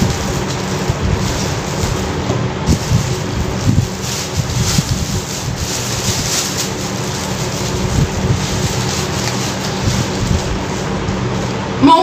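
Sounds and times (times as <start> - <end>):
paper wrapping rustling: 0.0 - 11.7
steady background hum: 0.0 - 12.0.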